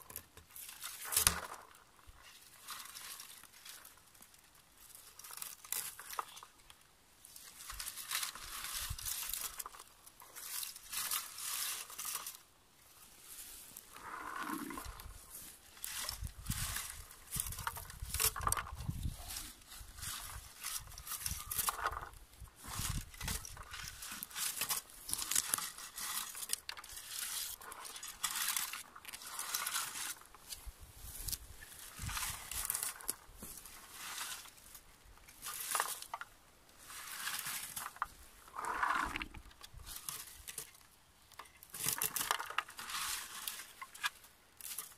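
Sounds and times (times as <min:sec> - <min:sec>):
berry picker rustling through shrubs: 0:00.2 - 0:44.9
comb raking through bushes: 0:07.3 - 0:40.9, 0:41.6 - 0:44.9.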